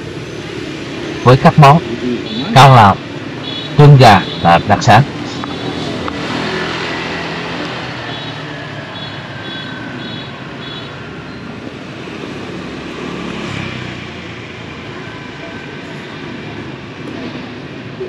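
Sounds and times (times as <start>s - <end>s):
motor scooters passing: 0.0s - 18.0s.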